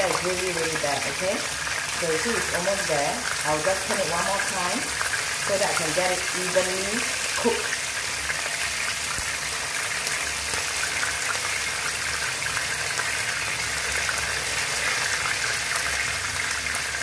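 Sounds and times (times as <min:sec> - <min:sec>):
oil sizzling and crackling: 0:00.0 - 0:17.0.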